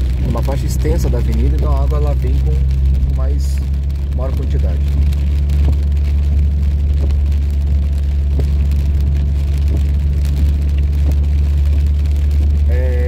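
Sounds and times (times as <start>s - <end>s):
windshield wipers tapping: 0.0s - 12.7s
car engine and tyres rumbling: 0.0s - 13.0s
rain on windshield: 0.0s - 13.0s.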